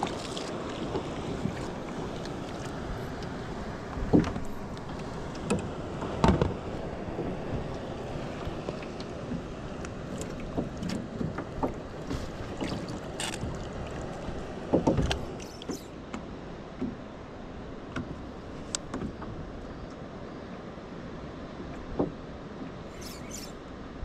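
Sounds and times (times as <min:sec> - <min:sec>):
water lapping against boat hull: 0:00.0 - 0:17.1, 0:17.8 - 0:20.0.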